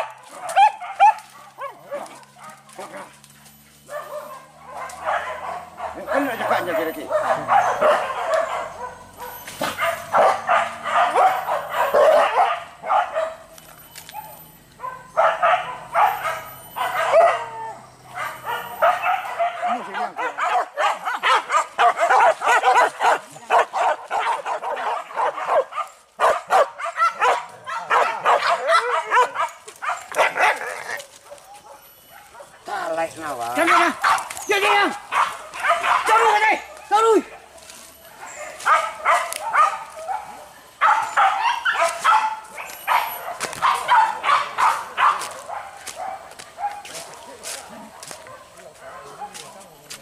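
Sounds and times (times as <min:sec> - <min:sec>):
dogs barking and yelping: 0:00.0 - 0:49.9.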